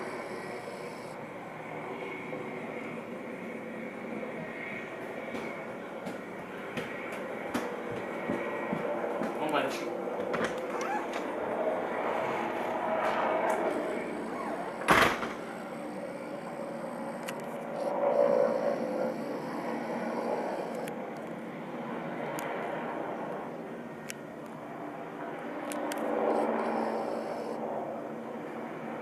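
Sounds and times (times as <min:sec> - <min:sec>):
distant helicopter rumble: 0:00.0 - 0:29.0.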